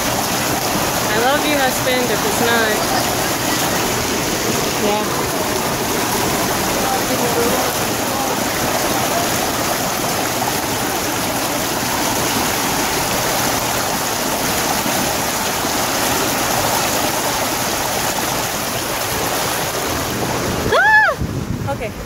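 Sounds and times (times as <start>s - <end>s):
water rushing down slides: 0.0s - 21.7s.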